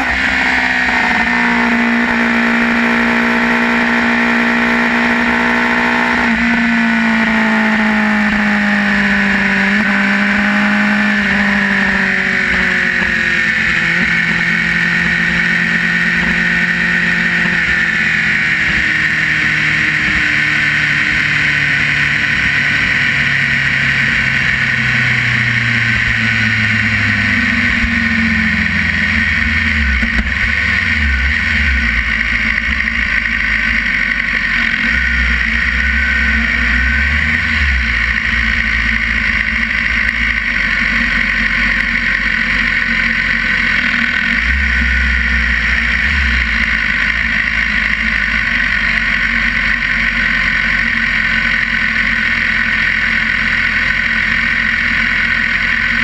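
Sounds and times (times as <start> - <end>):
motorcycle engine burbling: 0.0 - 56.0.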